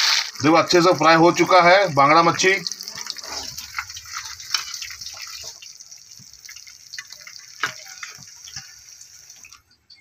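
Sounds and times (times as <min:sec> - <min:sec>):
fish frying in sizzling oil: 0:00.0 - 0:09.8
oil crackling and popping: 0:00.0 - 0:10.0.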